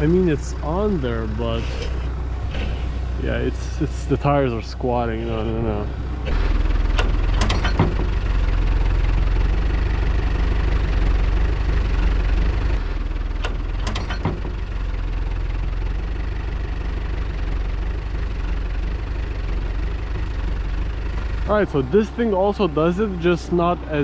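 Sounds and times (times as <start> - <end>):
diesel engine under heavy load: 0.0 - 24.0.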